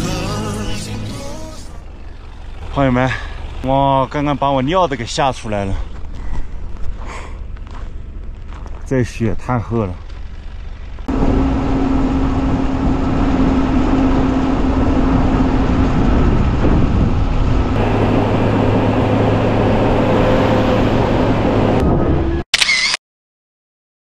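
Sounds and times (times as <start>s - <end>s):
road noise: 0.0s - 23.0s
vehicle engine drone: 0.0s - 23.0s.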